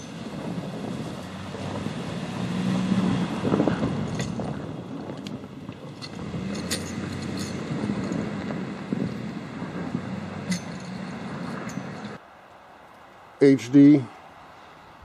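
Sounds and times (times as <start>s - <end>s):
plow rushing through snow: 0.0s - 12.2s.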